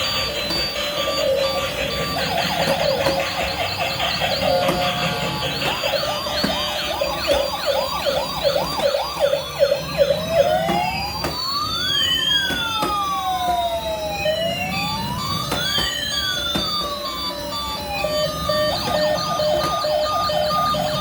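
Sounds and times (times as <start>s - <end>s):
electronic siren yelp and wail: 0.0s - 21.0s.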